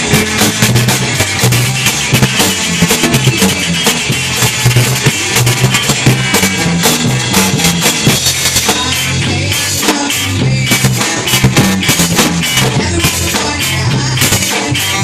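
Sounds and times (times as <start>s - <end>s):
bass guitar: 0.0s - 15.0s
drum kit hits: 0.0s - 15.0s
electric guitar: 0.0s - 15.0s.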